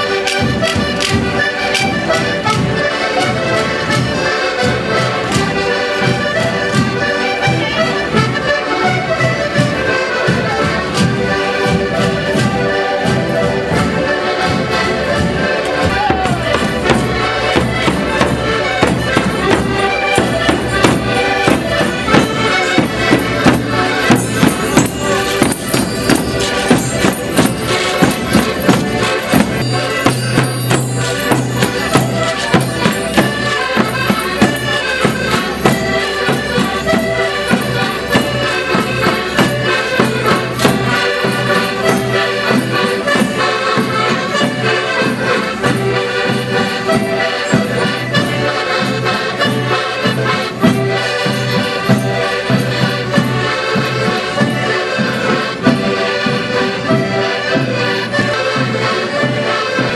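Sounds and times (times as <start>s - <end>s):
button accordions playing folk tune: 0.0s - 59.9s
hand percussion beat: 0.0s - 59.9s.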